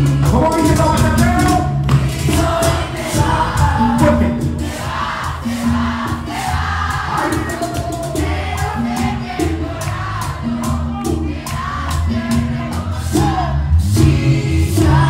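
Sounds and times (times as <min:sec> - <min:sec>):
metal scraper rhythm: 0:00.0 - 0:13.4
bass notes: 0:00.0 - 0:15.0
live band music: 0:00.0 - 0:15.0
voices singing: 0:01.9 - 0:15.0.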